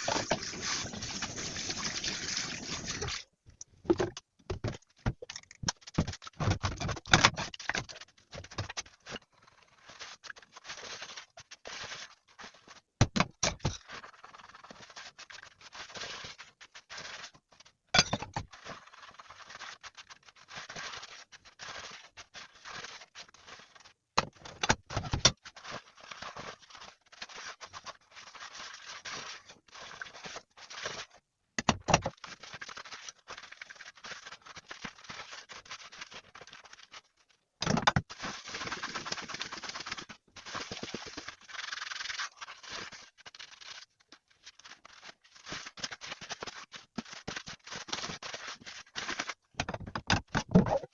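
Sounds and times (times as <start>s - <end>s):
scraping and rubbing noises: 3.9s - 31.2s, 31.8s - 50.9s.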